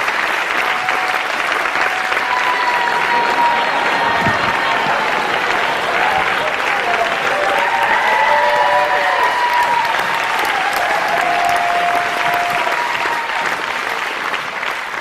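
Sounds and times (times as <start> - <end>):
audience applauding: 0.0 - 15.0
crowd whooping: 0.4 - 14.0.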